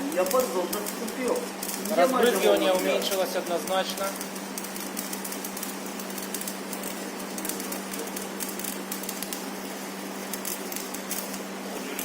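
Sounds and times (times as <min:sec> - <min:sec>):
welder hum: 0:00.0 - 0:12.0
welding arc crackling: 0:00.0 - 0:12.0.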